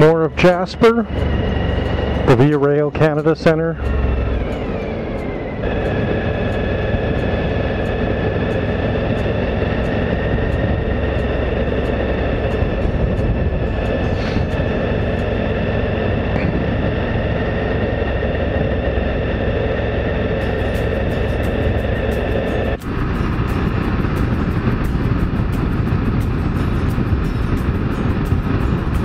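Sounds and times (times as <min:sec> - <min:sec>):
motorcycle riding noise: 0:00.0 - 0:29.0
steady high whine: 0:00.0 - 0:29.0.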